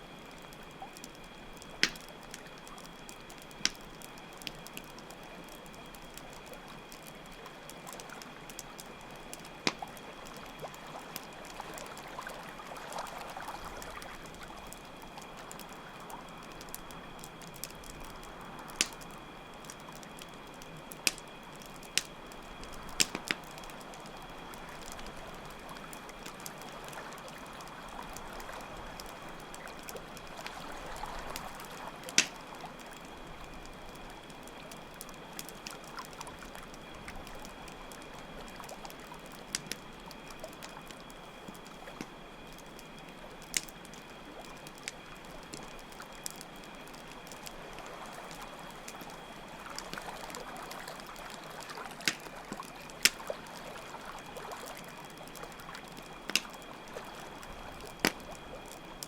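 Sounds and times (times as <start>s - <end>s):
campfire crackling: 0.0s - 59.0s
crickets chirping: 0.0s - 59.0s.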